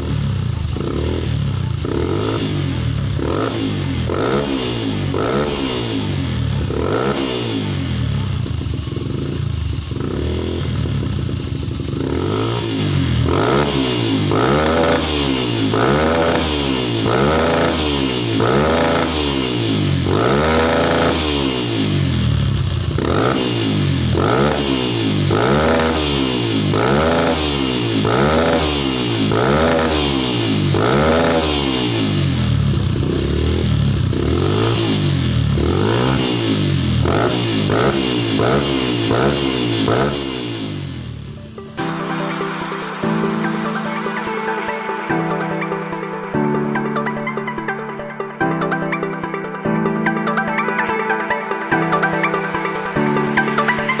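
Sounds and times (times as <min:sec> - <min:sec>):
motorcycle engine revving: 0:00.0 - 0:47.4.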